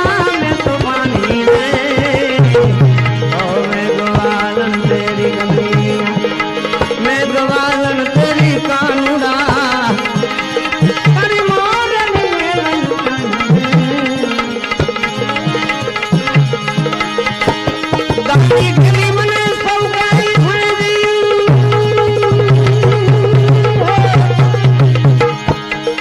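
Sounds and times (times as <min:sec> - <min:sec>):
tabla rhythm: 0:00.0 - 0:26.0
wavering melody line: 0:00.0 - 0:26.0.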